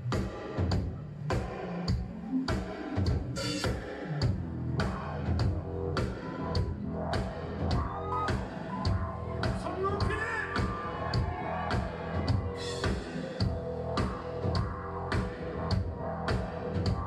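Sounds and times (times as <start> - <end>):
drums hitting steady beat: 0.0 - 17.0
rock band playing: 0.0 - 17.0.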